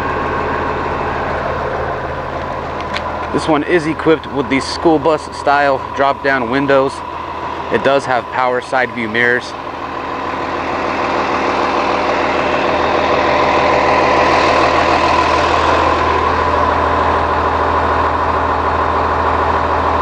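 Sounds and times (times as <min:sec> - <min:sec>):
diesel bus idling: 0:00.0 - 0:20.0.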